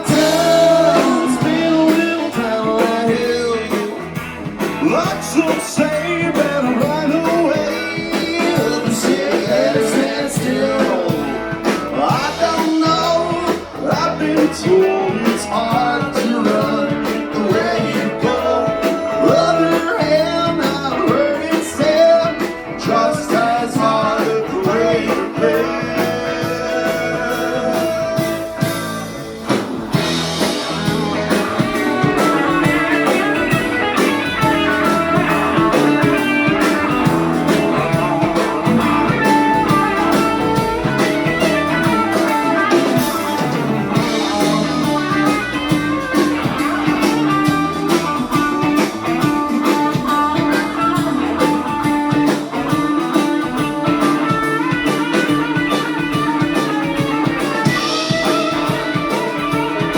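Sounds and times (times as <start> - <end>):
blues-rock guitar: 0.0 - 59.9
drum kit: 0.0 - 59.9.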